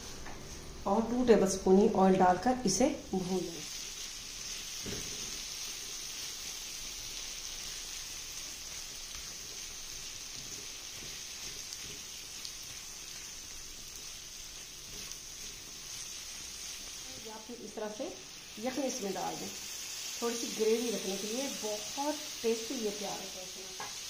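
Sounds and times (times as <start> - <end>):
meat sizzling in a pan: 2.9 - 24.0.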